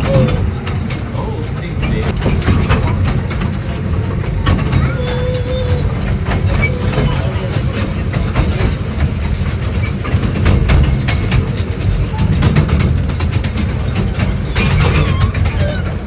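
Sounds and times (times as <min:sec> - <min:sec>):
train low rumble: 0:00.0 - 0:16.0
wheels clattering over track: 0:00.0 - 0:16.0.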